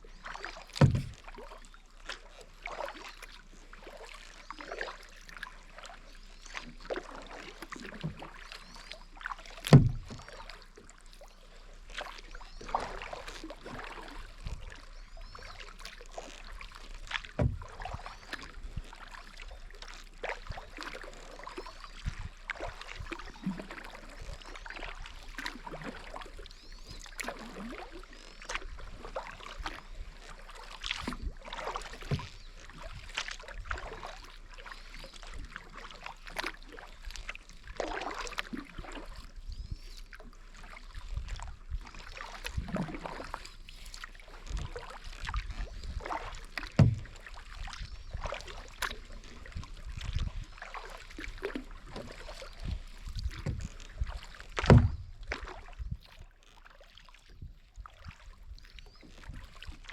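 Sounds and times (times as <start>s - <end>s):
paddle strokes splashing: 0.0s - 59.9s.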